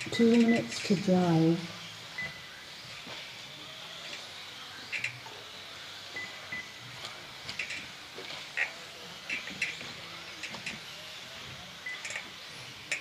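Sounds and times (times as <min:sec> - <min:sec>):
rc cars motor hiss: 0:00.0 - 0:13.0.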